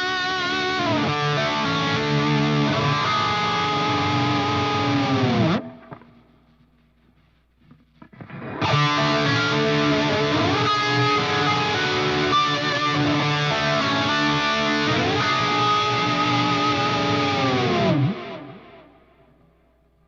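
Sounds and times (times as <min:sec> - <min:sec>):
distorted electric guitar chord: 0:00.0 - 0:06.0, 0:08.2 - 0:18.9
quiet picked guitar notes: 0:00.0 - 0:06.3, 0:08.1 - 0:19.2.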